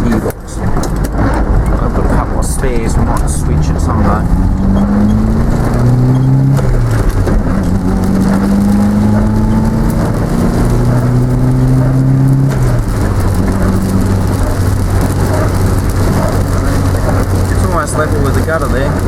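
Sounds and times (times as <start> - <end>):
car engine driving: 0.0 - 19.0
road noise: 0.0 - 19.0.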